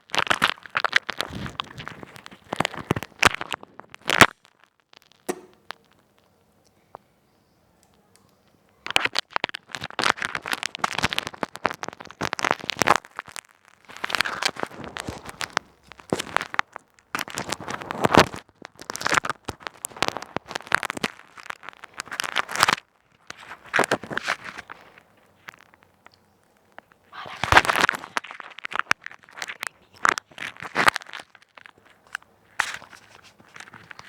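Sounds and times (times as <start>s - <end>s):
plastic bag crinkling: 0.0s - 6.0s, 8.9s - 34.0s.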